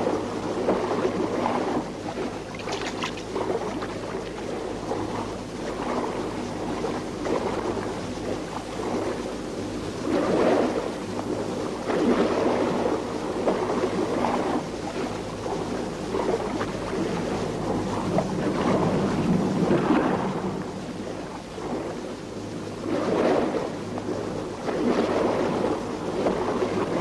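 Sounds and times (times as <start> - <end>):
sea water splashing: 0.0 - 22.2, 22.8 - 27.0
low steady hum: 0.0 - 27.0.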